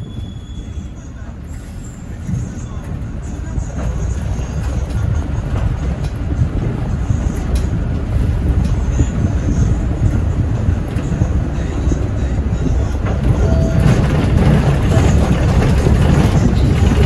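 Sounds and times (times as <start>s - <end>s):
bus engine and road noise rumble: 0.0s - 17.0s.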